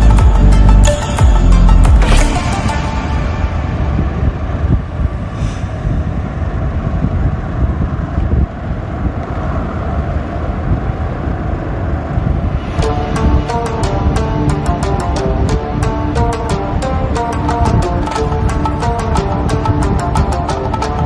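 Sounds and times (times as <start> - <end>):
motorcycle engine and riding noise: 3.5 - 21.0.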